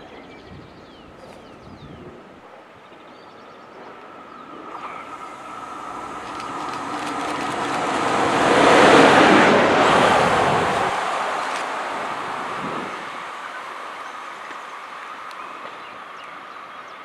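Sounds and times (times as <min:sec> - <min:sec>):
train passing by: 0:02.1 - 0:17.0.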